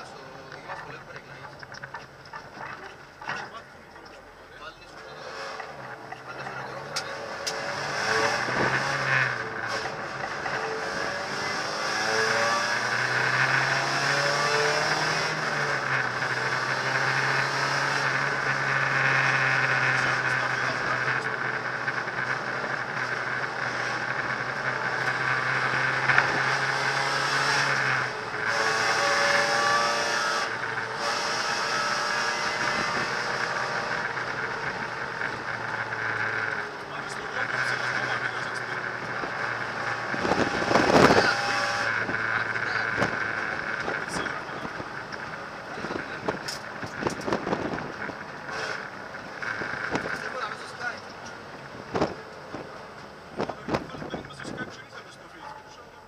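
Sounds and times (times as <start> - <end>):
car engine running hard: 0.0 - 56.0.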